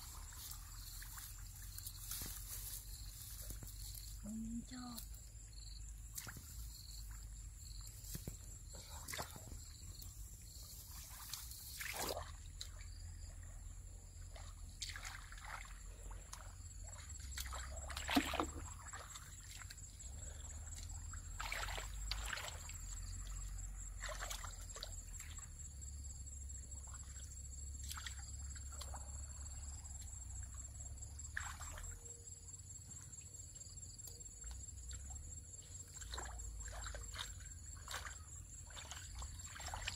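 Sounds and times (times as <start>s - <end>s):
muddy water sloshing and splashing: 0.0s - 5.0s, 5.8s - 39.9s.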